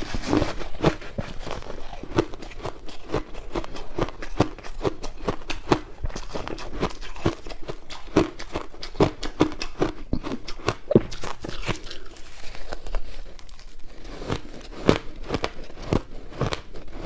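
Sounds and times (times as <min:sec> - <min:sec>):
chewing crushed ice: 0:00.0 - 0:17.0.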